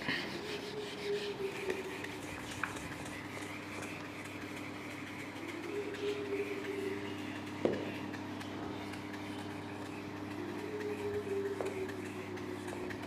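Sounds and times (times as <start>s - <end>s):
duster rubbing whiteboard: 0.0s - 13.0s
low background hum: 0.0s - 13.0s.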